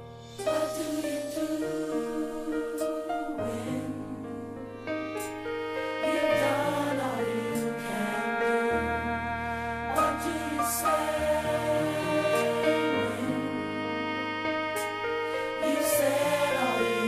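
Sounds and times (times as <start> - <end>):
choir singing: 0.3 - 17.0
held instrumental chords: 2.4 - 17.0.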